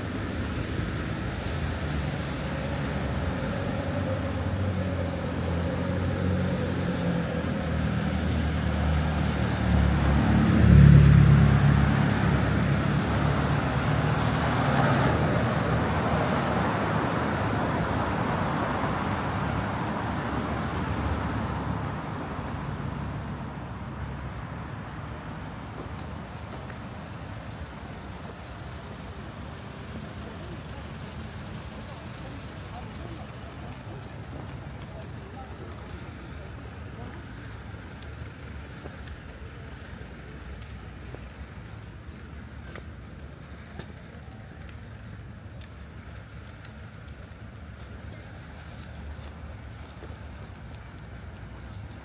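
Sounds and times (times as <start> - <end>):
road traffic: 0.0 - 52.0.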